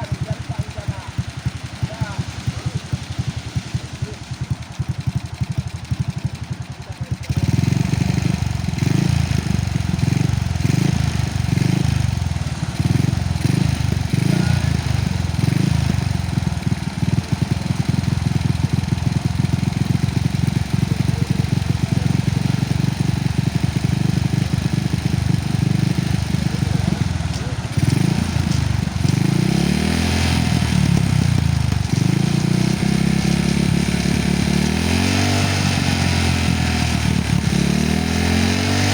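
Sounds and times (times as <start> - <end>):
engine running close by: 0.0 - 38.9.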